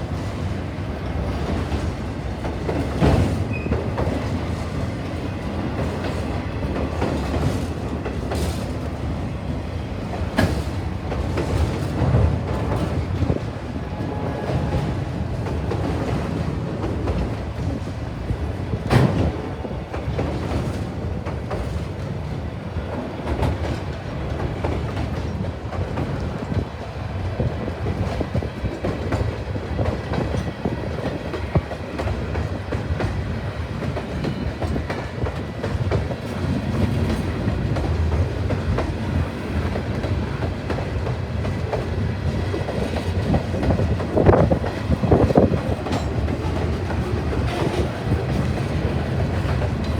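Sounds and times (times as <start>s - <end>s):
train wheels clacking: 0.0s - 49.9s.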